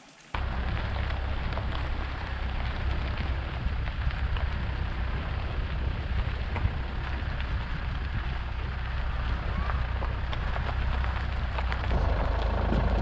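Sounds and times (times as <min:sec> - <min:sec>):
tyres crunching on gravel: 0:00.3 - 0:13.0
road and wind rumble: 0:00.4 - 0:13.0.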